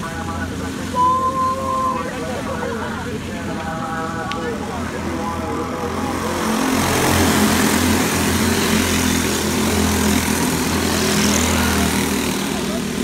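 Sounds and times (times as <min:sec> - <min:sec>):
go-kart engines at high revs: 0:00.0 - 0:13.0.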